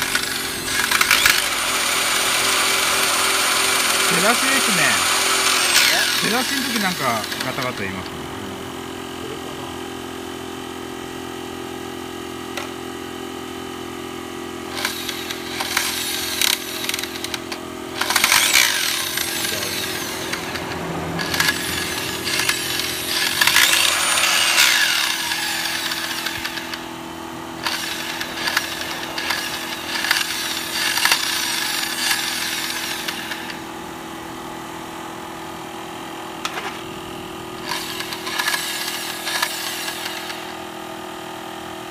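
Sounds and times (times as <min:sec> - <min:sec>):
grinding and clattering noise: 0:00.0 - 0:10.4, 0:14.6 - 0:41.2
miter saw motor running: 0:00.0 - 0:41.9.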